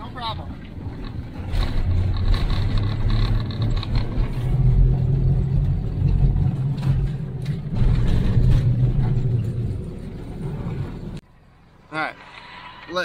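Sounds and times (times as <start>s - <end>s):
track rumble: 0.0s - 11.2s
vehicle engine drone: 0.0s - 13.0s.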